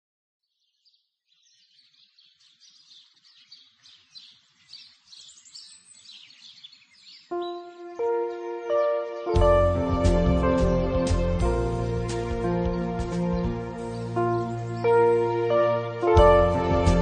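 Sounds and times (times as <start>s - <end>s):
songbirds chirping: 0.4s - 17.0s.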